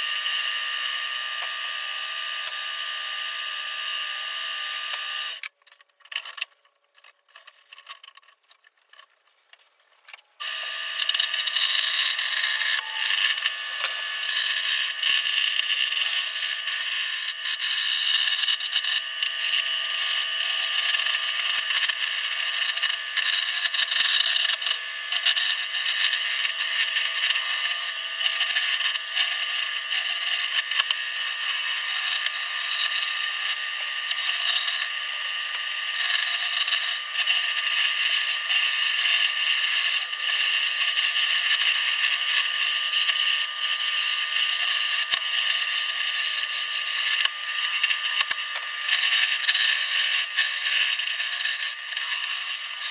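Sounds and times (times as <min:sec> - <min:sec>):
faint motor hum: 0:00.0 - 0:52.9
lathe tool scraping wood: 0:10.4 - 0:52.9.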